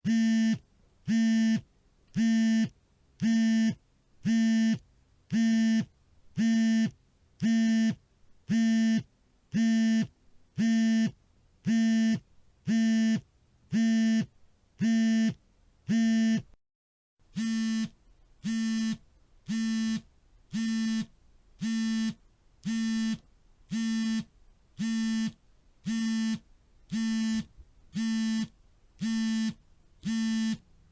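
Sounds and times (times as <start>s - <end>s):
mobile phone vibrating: 0.1s - 16.6s, 17.3s - 30.7s.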